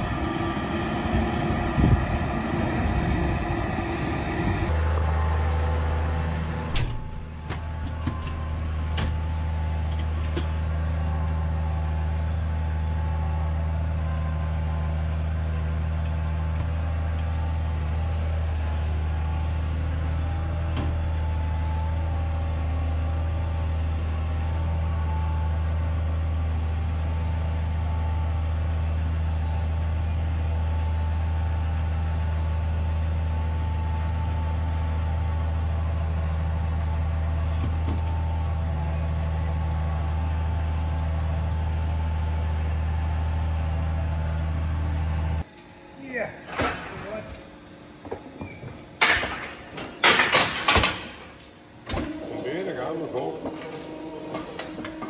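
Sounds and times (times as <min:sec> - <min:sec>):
machine drone: 0:00.0 - 0:55.0.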